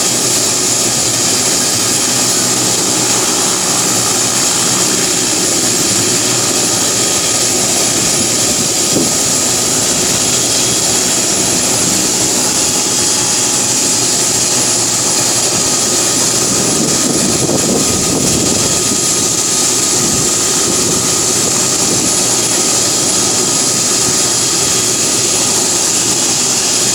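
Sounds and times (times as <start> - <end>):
helicopter rotor noise: 0.0 - 26.9
turbine high whine: 0.0 - 26.9.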